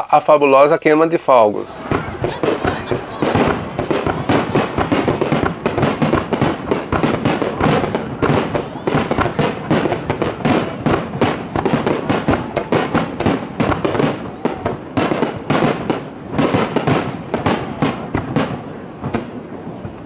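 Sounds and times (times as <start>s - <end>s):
firework shells bursting: 1.6s - 20.0s.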